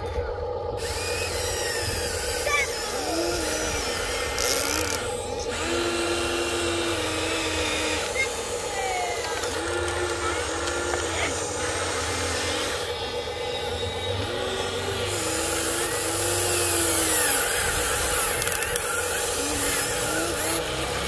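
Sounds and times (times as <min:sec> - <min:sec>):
electric motors whining: 0:00.0 - 0:21.0
steady hum: 0:00.0 - 0:21.0.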